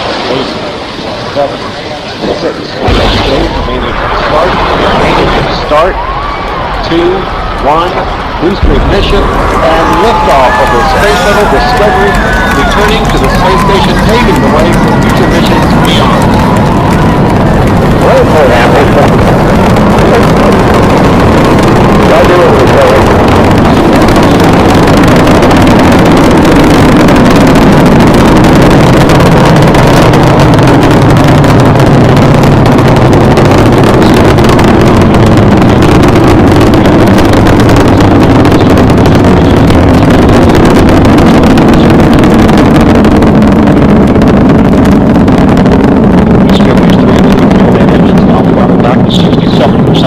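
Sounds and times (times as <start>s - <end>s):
rocket engines rumbling: 0.0s - 50.0s.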